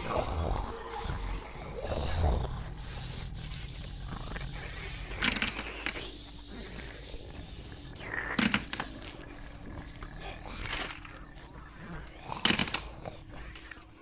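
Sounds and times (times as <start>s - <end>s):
low drone: 0.0s - 14.0s.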